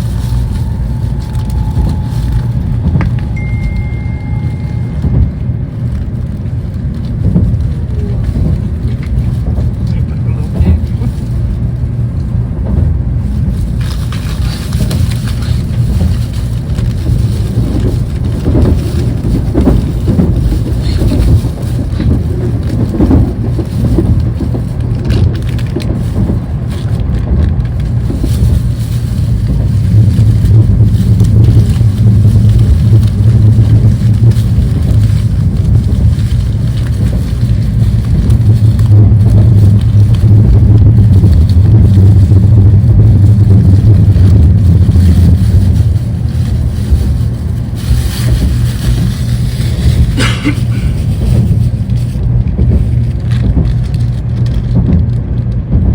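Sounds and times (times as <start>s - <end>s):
bullet train rumbling: 0.0s - 55.9s.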